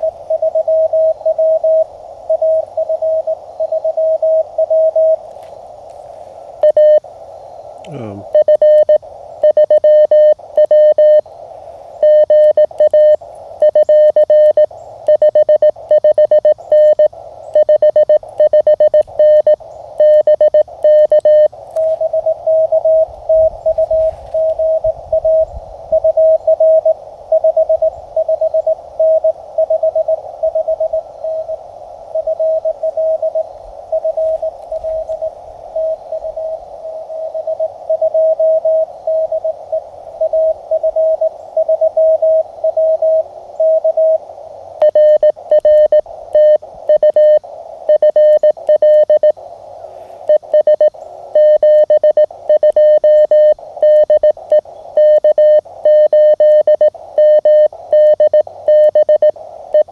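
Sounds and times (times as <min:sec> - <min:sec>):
higher-pitched morse code signal: 0:00.0 - 0:05.2, 0:06.6 - 0:07.1, 0:08.0 - 0:11.3, 0:12.0 - 0:49.4, 0:50.2 - 0:59.9
morse code sidetone: 0:00.0 - 0:05.5, 0:06.6 - 0:07.1, 0:08.0 - 0:11.3, 0:12.0 - 0:49.4, 0:50.2 - 0:59.9
radio band noise hiss: 0:00.0 - 0:59.9.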